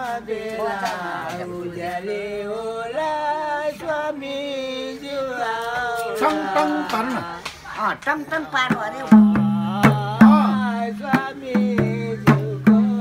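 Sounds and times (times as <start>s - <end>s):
voices singing slow chant: 0.0s - 13.0s.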